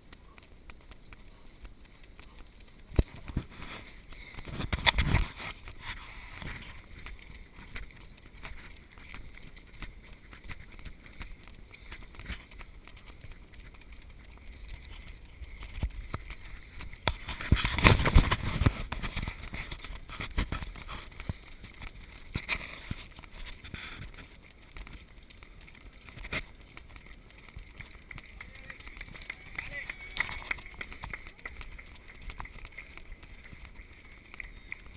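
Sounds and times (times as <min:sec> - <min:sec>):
camera rubbing and rustling: 0:00.0 - 0:34.9
running footsteps on dirt: 0:00.0 - 0:34.9.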